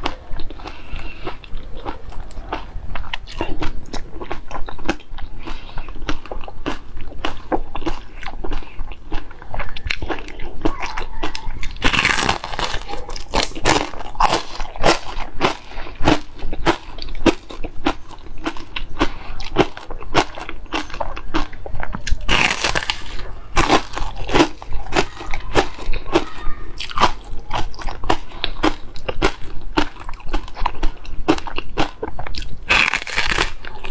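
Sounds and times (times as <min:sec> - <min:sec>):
wet chewing and mouth smacks: 0:00.0 - 0:33.9.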